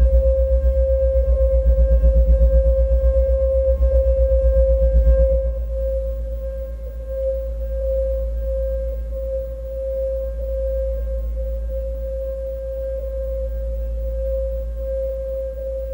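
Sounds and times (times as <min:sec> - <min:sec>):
fast low throb: 0:00.0 - 0:15.9
low drone: 0:00.0 - 0:15.9
sustained pure tone: 0:00.0 - 0:15.9.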